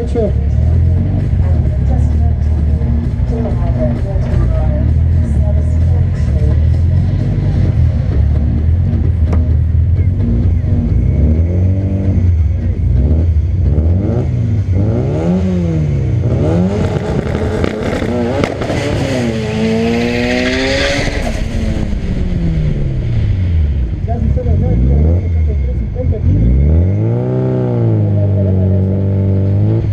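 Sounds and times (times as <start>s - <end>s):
drag race car engines revving: 0.0s - 29.9s
steady low rumble: 0.0s - 29.9s.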